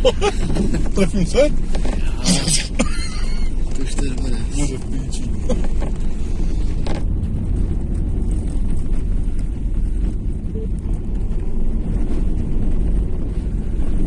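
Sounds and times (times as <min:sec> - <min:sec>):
car engine and tyres rumble: 0:00.0 - 0:14.0.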